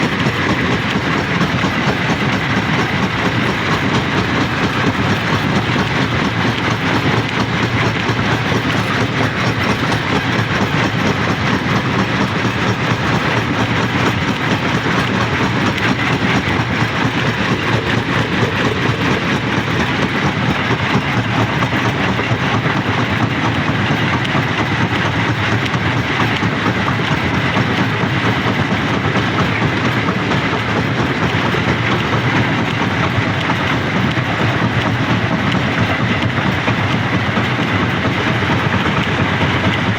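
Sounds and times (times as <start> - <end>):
rock crusher running: 0.0 - 39.9.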